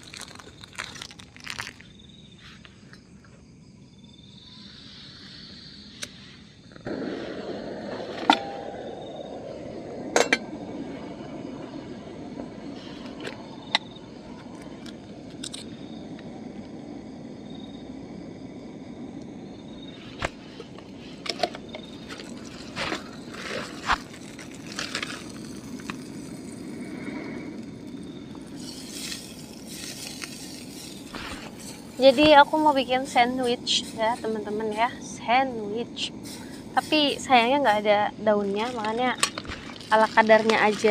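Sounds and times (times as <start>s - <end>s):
steady background noise: 0.0s - 40.9s.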